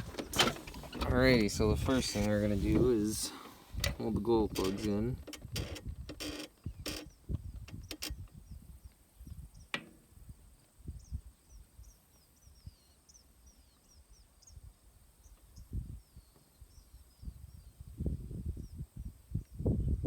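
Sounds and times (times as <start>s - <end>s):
wind buffeting microphone: 0.0s - 12.0s, 15.4s - 20.0s.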